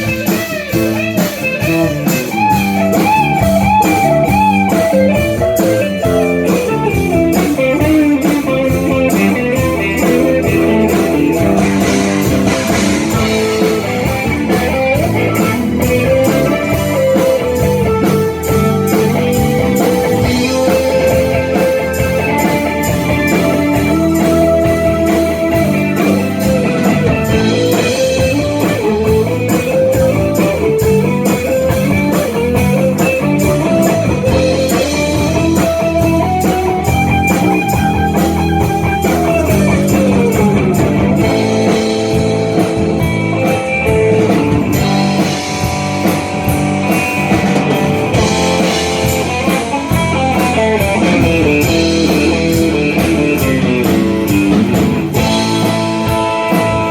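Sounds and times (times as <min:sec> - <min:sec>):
electric lead guitar: 0:00.0 - 0:56.9
rock band playing: 0:00.0 - 0:56.9.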